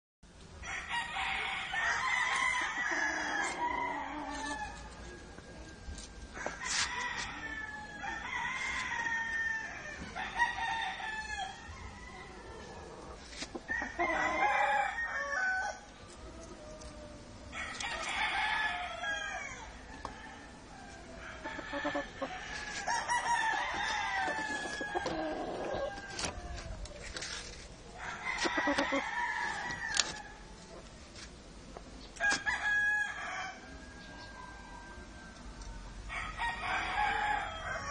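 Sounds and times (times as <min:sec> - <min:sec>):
roosters crowing: 0:00.6 - 0:05.4, 0:06.0 - 0:30.8, 0:32.2 - 0:37.9.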